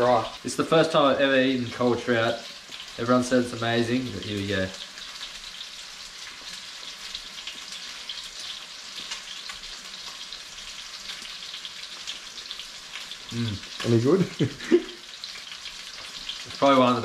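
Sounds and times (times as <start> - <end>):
fish sizzling in a pan: 0.0 - 17.0.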